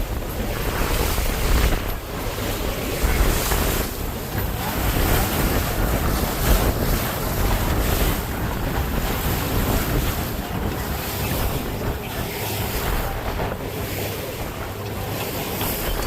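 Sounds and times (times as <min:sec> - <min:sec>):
rushing water and waves: 0:00.0 - 0:16.0
wind buffeting microphone: 0:00.0 - 0:16.0.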